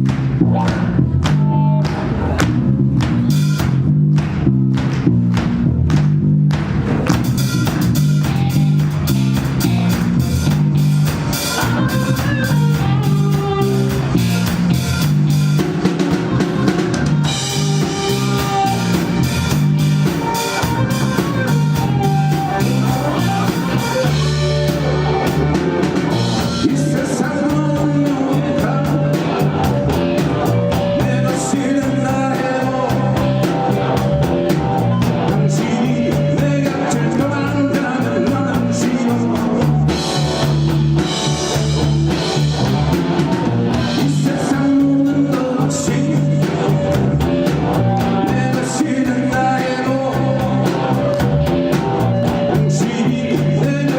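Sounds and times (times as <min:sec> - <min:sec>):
drum kit steady beat: 0:00.0 - 0:53.9
live pop-rock band playing: 0:00.0 - 0:53.9.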